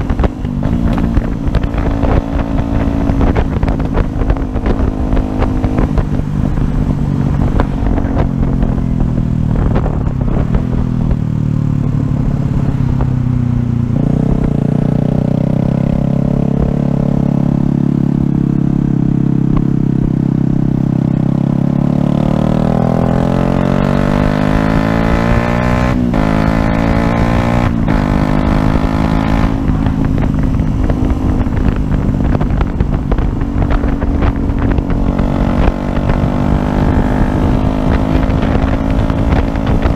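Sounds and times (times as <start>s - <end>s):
motorcycle engine revving: 0.0s - 39.9s
road rumble: 0.0s - 39.9s
wind: 0.0s - 39.9s.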